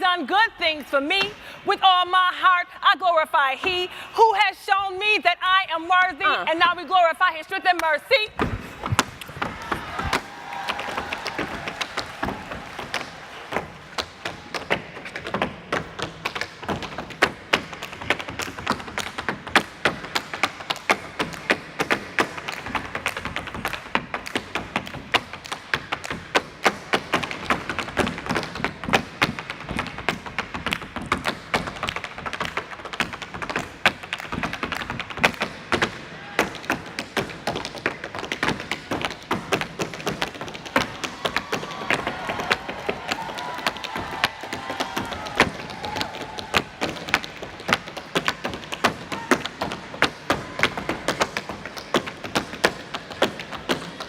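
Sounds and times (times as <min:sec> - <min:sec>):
rapid percussive taps and thumps: 0:08.4 - 0:54.0.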